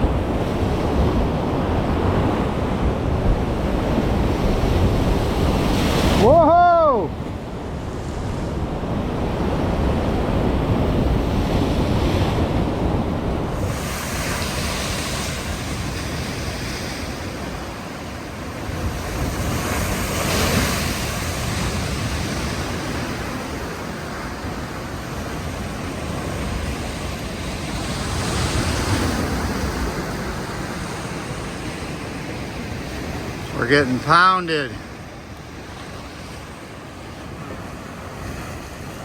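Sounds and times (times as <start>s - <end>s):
wind buffeting microphone: 0.0s - 34.0s
waves crashing against a pier: 0.0s - 39.0s.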